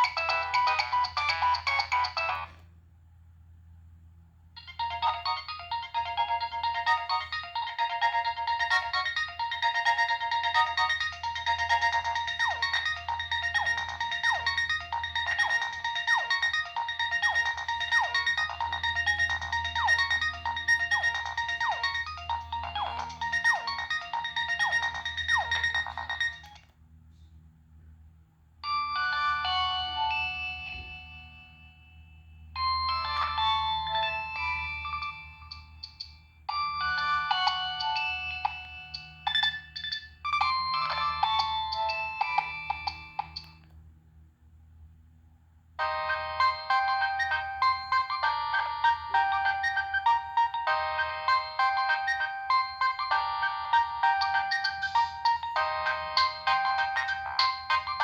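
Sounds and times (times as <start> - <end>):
synthesized ringtone melody: 0.0 - 2.6, 4.6 - 26.6, 28.6 - 43.6, 45.8 - 58.0
faint low hum: 0.0 - 58.0.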